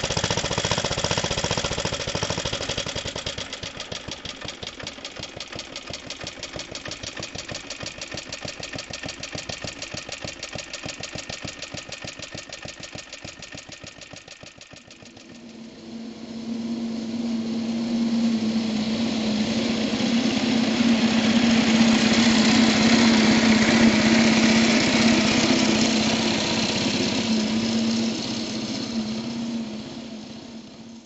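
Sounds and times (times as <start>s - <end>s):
mower two-stroke engine: 0.0s - 31.0s.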